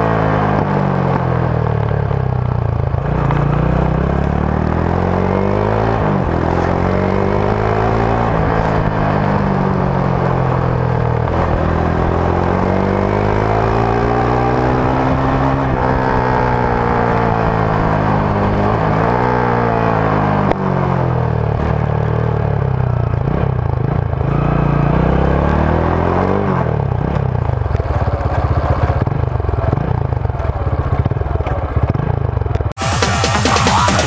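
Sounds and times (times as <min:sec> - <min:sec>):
motorcycle exhaust while riding: 0:00.0 - 0:34.0.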